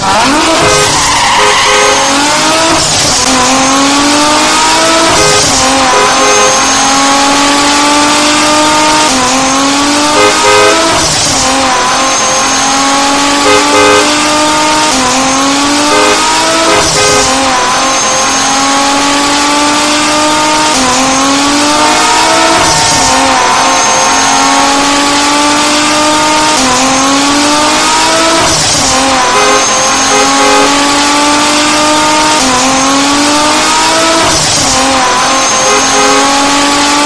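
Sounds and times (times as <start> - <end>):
race car engine accelerating: 0.0 - 37.0.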